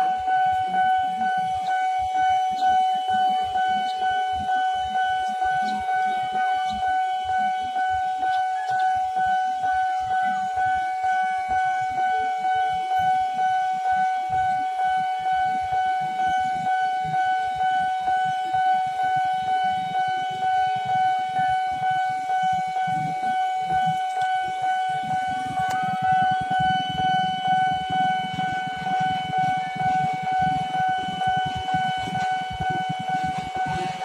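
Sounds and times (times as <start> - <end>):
level crossing alarm tone: 0.0 - 34.0.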